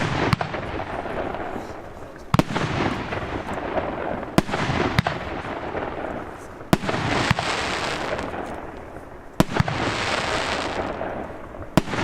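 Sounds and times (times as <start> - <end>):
firework bangs: 0.0 - 12.0
firework crackle and hiss: 0.0 - 12.0.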